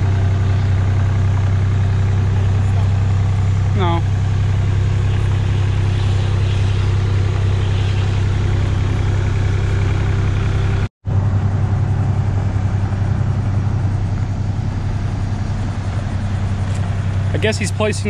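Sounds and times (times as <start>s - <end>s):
forklift engine running: 0.0s - 18.0s.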